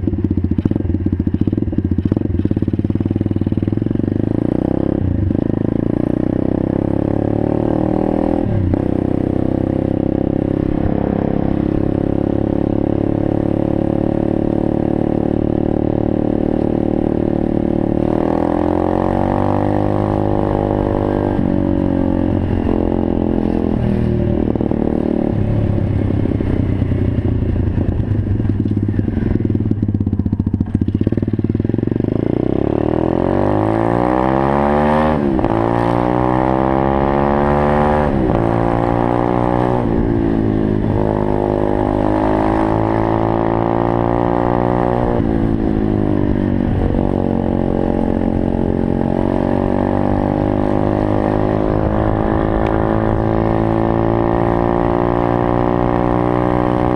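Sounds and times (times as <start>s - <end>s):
motorbike engine accelerating: 0.0s - 56.9s.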